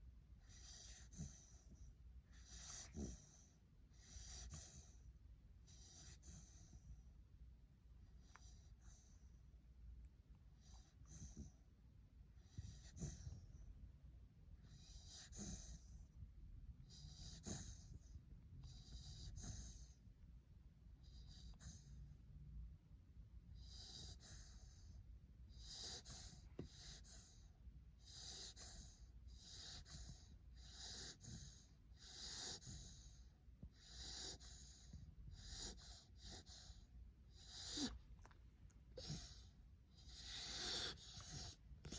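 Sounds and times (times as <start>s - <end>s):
puppy snoring softly: 0.0s - 22.5s, 23.4s - 41.9s.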